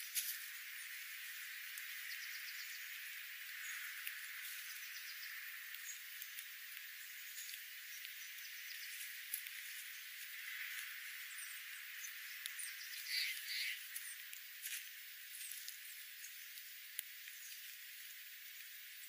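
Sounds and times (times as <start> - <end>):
sparrow chips: 0.0 - 19.0
sparrows pecking on gravel: 0.0 - 19.0.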